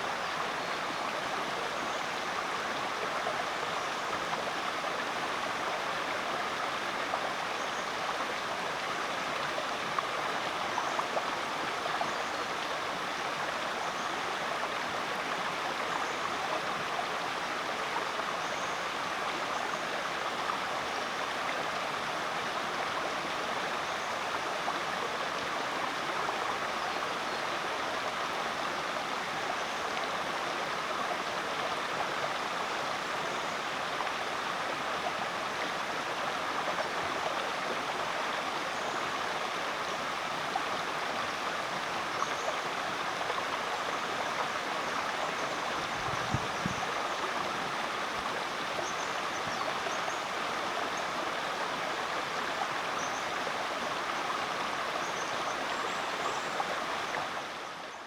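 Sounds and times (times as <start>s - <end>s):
creek flowing: 0.0s - 58.0s.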